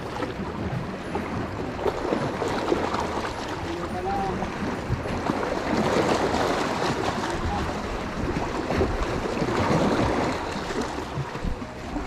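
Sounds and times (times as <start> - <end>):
water splashing against a boat: 0.0 - 12.0
wind buffeting microphone: 0.0 - 12.0.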